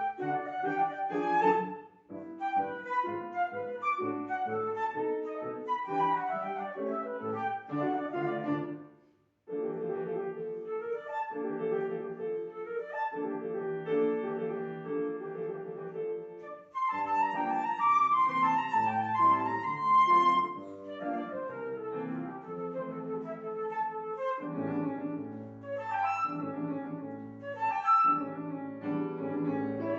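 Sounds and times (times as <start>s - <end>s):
flute melody: 0.0s - 8.9s, 9.6s - 29.9s
piano accompaniment: 0.0s - 29.9s.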